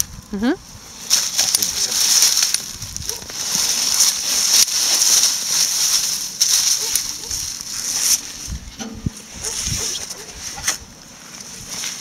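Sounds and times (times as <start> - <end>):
dry stalks rustling and crackling: 0.0 - 12.0.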